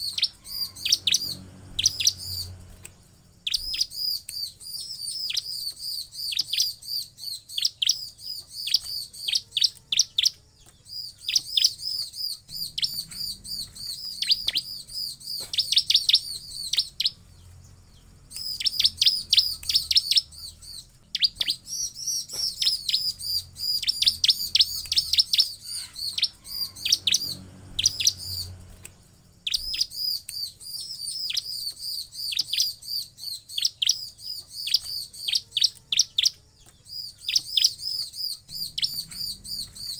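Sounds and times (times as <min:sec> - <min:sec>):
bird singing high chattering: 0:00.0 - 0:39.9.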